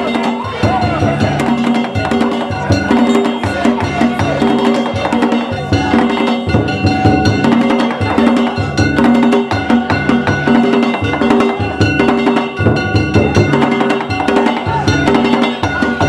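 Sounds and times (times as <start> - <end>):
taiko drums beating: 0.0 - 16.0.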